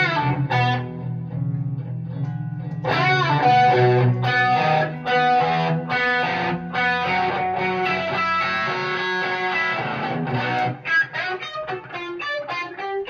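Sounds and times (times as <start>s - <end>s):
loud electric guitar: 0.0s - 13.0s.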